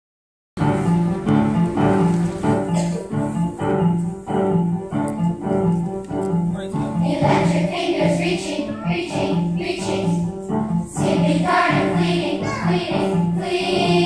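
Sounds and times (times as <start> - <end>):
piano chords: 0.6 - 14.0.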